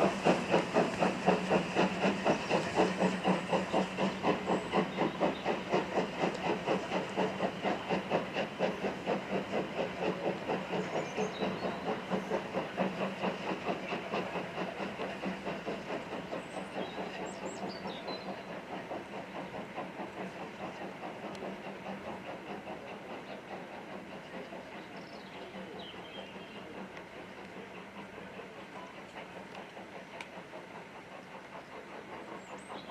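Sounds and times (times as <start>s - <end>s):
steam hissing: 0.0s - 32.9s
steam locomotive exhaust beats: 0.0s - 32.9s.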